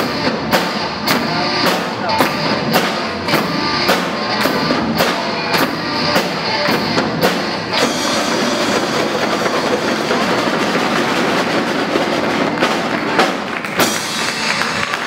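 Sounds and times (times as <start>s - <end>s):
marching snare drums: 0.0s - 15.0s
rock band playing: 0.0s - 15.0s.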